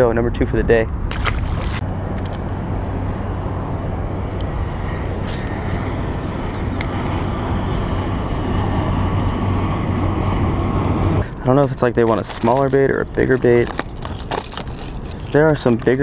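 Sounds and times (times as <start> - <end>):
jet airliner flying overhead: 1.8 - 16.0.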